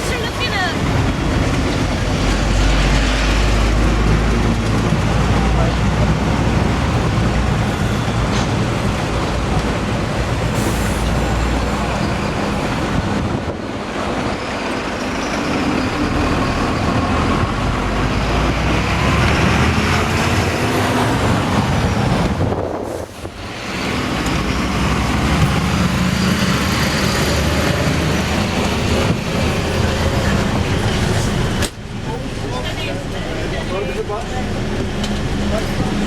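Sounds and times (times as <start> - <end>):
large vehicle engine rumble: 0.0 - 36.0.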